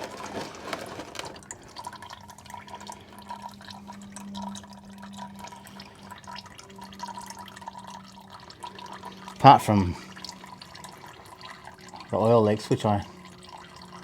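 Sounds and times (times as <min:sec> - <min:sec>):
faint steady hum: 0:00.0 - 0:14.0
oil trickling into pan: 0:00.0 - 0:14.0.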